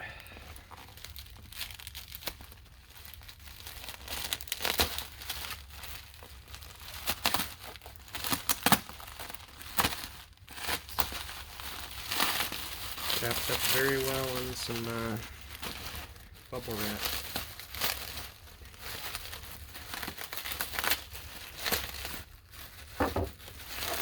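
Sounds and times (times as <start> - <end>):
plastic packaging crinkling: 0.2 - 24.0.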